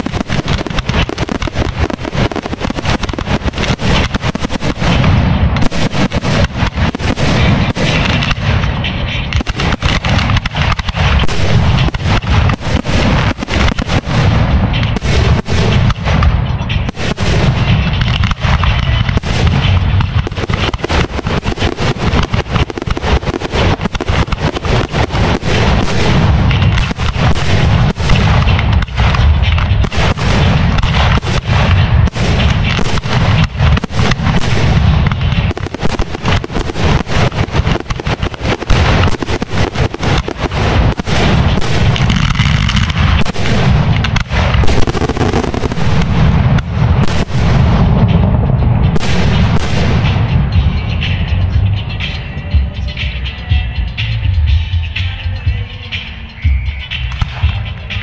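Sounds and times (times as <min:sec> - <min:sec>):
fireworks booming and crackling: 0:00.0 - 0:52.8.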